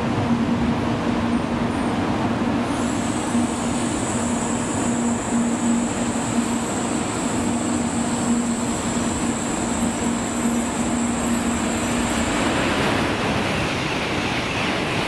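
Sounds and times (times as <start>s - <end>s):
high-speed train rushing: 0.0s - 15.0s.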